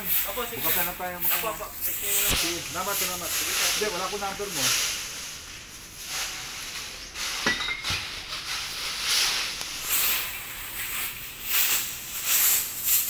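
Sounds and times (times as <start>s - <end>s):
broom sweeping concrete and leaves: 0.0s - 13.0s.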